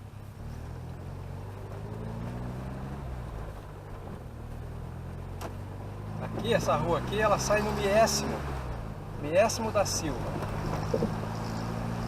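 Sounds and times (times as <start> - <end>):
car engine running while driving: 0.0 - 12.0.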